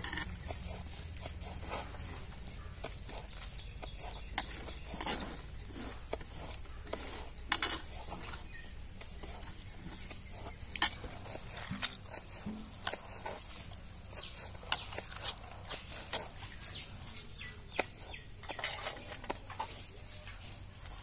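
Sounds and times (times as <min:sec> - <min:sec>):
cabbage rustling and patter: 0:00.0 - 0:21.0.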